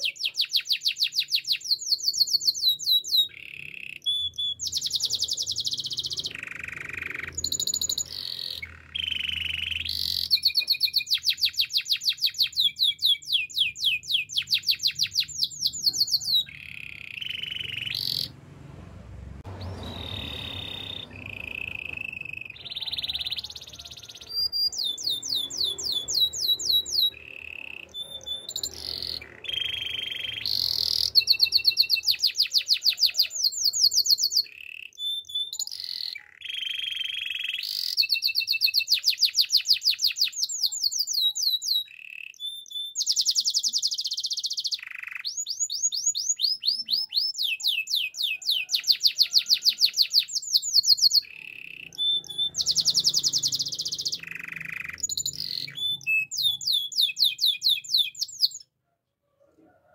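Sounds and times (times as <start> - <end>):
canary singing: 0.0 - 58.8.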